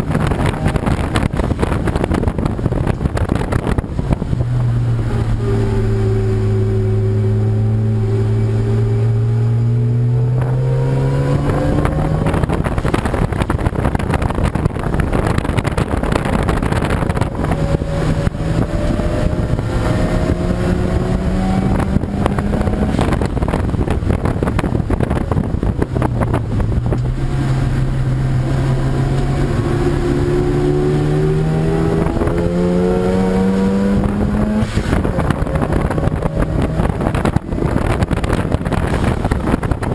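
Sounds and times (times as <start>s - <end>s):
racing car engines accelerating: 0.0s - 13.9s, 14.8s - 39.9s.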